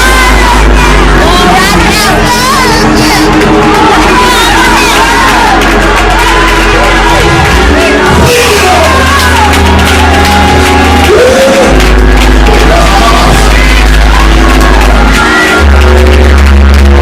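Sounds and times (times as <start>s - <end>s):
held chords over deep bass: 0.0s - 17.0s
voices shouting and singing: 0.0s - 17.0s.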